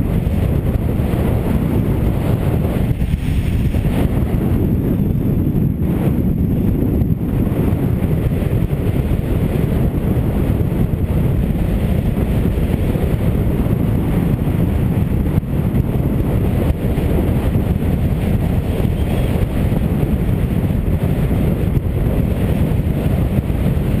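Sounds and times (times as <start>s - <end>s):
motorcycle low rumble: 0.0s - 24.0s
wind buffeting microphone: 0.0s - 24.0s.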